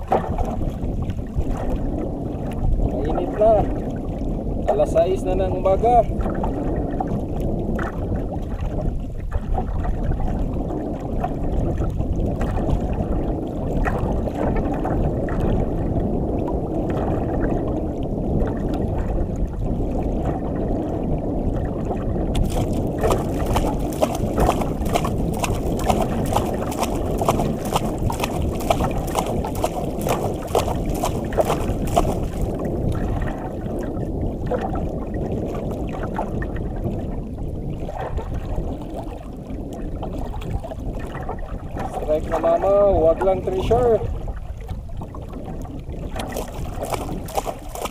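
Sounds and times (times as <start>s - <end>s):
water lapping against boat hull: 0.0s - 47.9s
wind on microphone: 0.0s - 47.9s.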